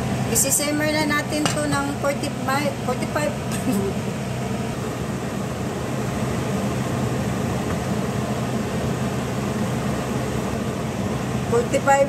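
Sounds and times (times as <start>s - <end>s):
mechanical fan hum: 0.0s - 12.0s.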